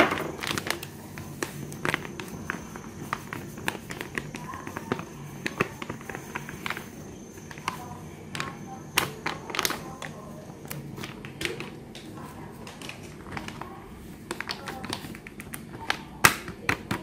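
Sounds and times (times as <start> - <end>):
plastic packet crinkling: 0.0 - 17.0.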